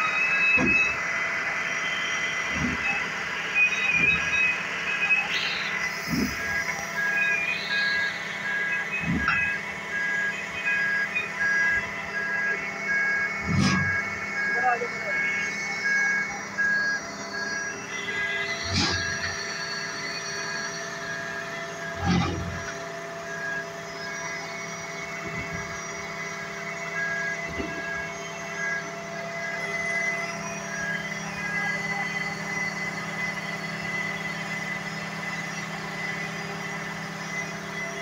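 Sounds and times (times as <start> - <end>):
truck engine and hydraulics humming: 0.0 - 38.0
warning beeper: 0.0 - 38.0.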